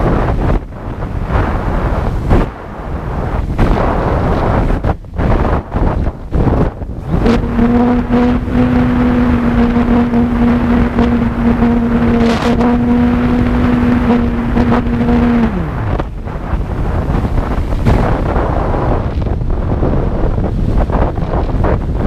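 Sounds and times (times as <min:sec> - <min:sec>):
aircraft motor hum: 0:00.0 - 0:22.0
wind buffeting microphone: 0:00.0 - 0:22.0.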